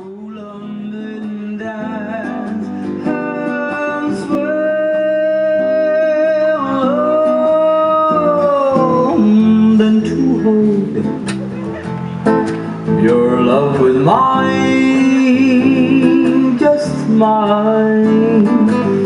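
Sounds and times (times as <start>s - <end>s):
plucked acoustic guitar: 0.0s - 19.0s.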